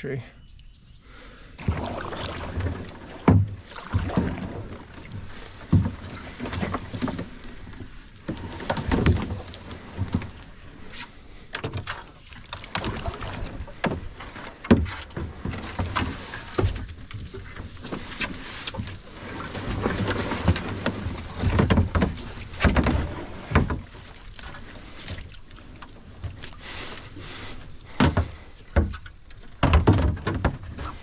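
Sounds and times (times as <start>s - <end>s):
paddle splashing in water: 1.3s - 31.0s.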